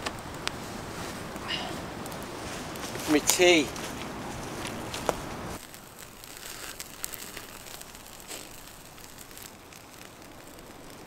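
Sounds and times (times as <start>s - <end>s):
campfire crackling: 0.0s - 11.0s
soft fire hiss: 0.0s - 11.0s
sharp pops: 1.3s - 11.0s.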